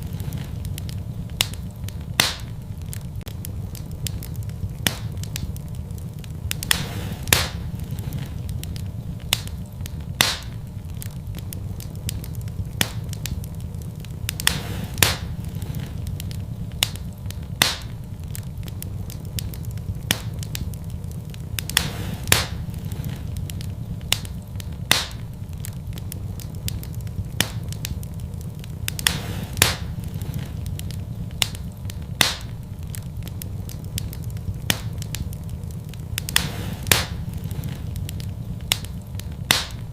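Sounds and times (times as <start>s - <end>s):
steady low rumble: 0.0s - 39.9s
wood fire crackling and popping: 0.0s - 39.9s.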